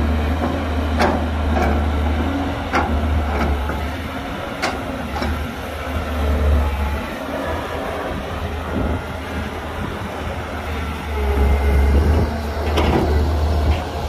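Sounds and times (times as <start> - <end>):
diesel machinery rumble: 0.0 - 14.0.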